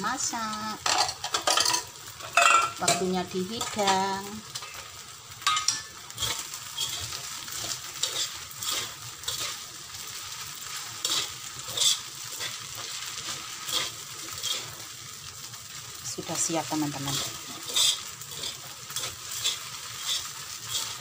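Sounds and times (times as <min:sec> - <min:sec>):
noodles sizzling in a wok: 0:00.0 - 0:21.0
metal spatula scraping a pan: 0:00.8 - 0:15.0, 0:16.3 - 0:21.0.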